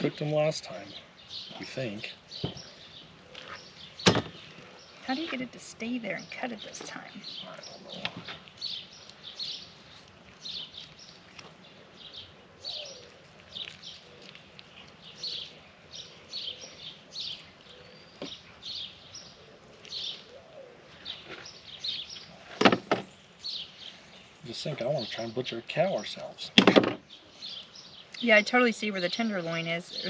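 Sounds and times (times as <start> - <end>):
bird chirping: 0.0 - 30.0.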